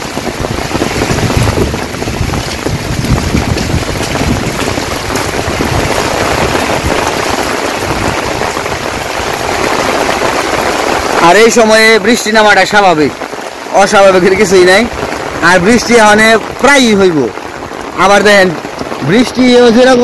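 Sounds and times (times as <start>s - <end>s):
wind buffeting microphone: 0.0s - 11.7s, 13.1s - 20.0s
heavy rain: 0.0s - 20.0s.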